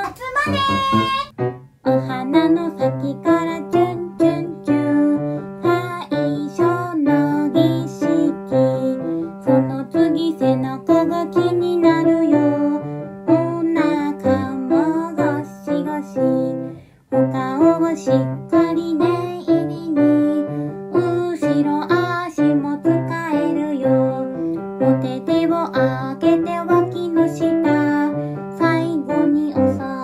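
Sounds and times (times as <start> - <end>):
piano and electric keyboard: 0.4 - 30.0
woman singing: 0.4 - 30.0.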